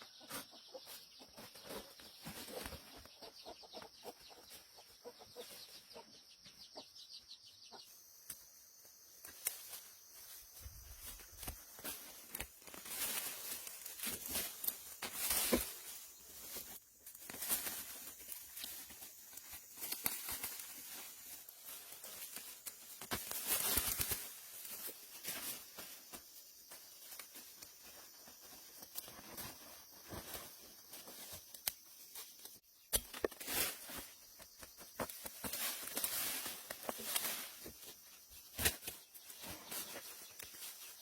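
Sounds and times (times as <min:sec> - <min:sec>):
rustling and crinkling: 0:00.1 - 0:05.9, 0:08.4 - 0:41.0.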